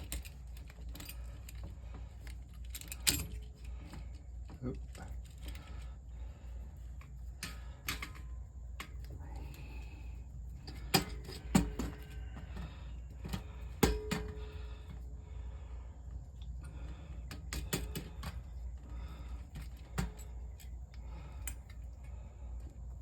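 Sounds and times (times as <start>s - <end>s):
hands and tools clicking on metal: 0.0s - 5.9s, 6.6s - 14.9s, 16.5s - 22.8s.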